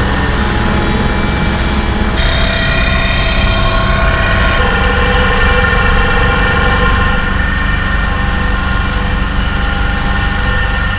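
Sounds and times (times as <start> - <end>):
heavy construction machinery rumble: 0.0 - 10.9.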